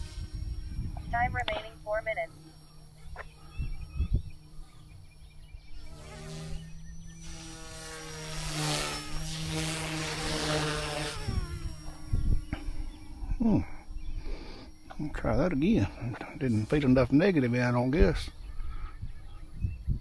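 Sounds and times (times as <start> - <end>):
rc helicopter rotor and motor whine: 0.0 - 20.0.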